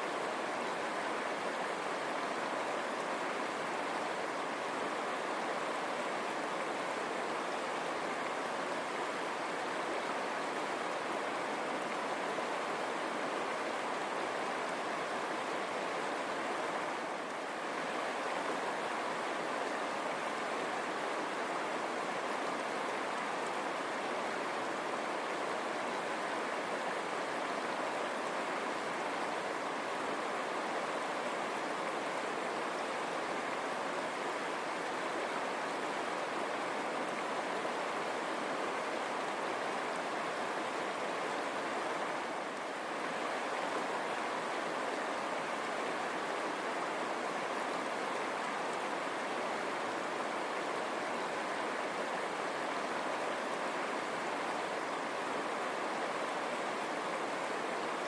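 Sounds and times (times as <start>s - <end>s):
river water over stones: 0.0s - 58.0s.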